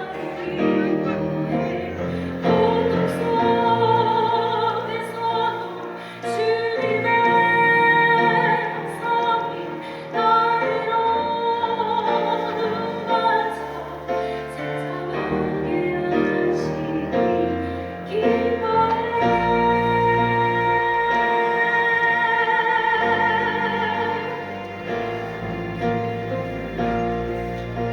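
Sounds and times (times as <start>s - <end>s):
church choir singing: 0.0s - 6.5s, 7.8s - 27.8s
piano accompaniment: 0.0s - 27.9s.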